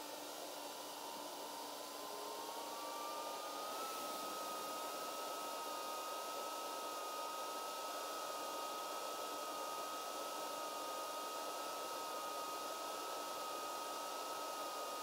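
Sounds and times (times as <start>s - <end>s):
mechanical whir with high whine: 0.0s - 15.0s.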